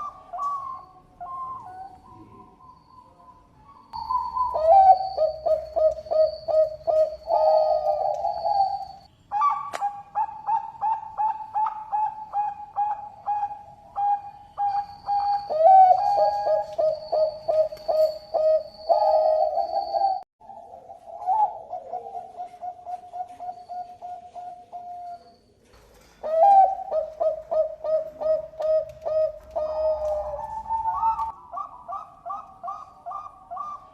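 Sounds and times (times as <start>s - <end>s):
dove cooing: 0.0s - 25.4s, 26.0s - 33.9s.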